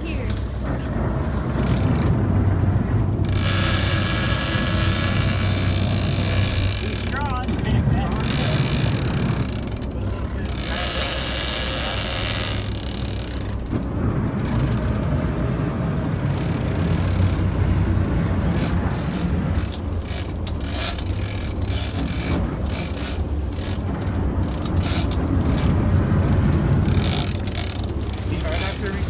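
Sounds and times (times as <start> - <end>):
boat engine humming: 0.0 - 29.0
rattles and clicks: 0.2 - 29.0.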